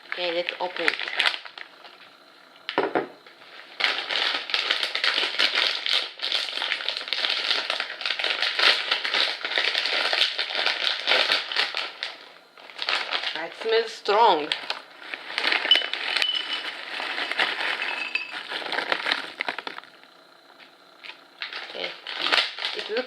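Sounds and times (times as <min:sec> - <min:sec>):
plastic bag crinkling: 0:00.0 - 0:02.1, 0:03.4 - 0:20.0, 0:20.6 - 0:23.0
plastic bag ripping: 0:00.1 - 0:01.7, 0:03.7 - 0:13.7, 0:14.4 - 0:19.9, 0:21.0 - 0:23.0.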